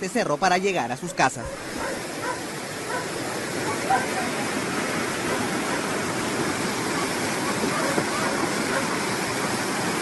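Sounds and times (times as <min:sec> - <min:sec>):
debris flow churning water: 0:01.5 - 0:10.0.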